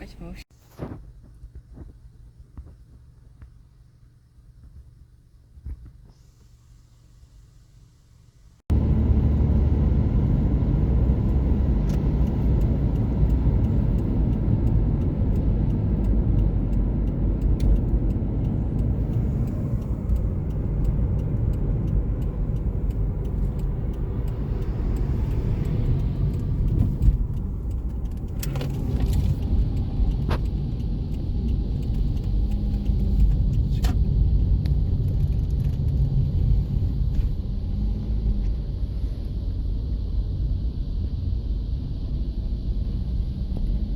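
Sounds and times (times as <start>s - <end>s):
car driving rumble: 8.6s - 43.9s.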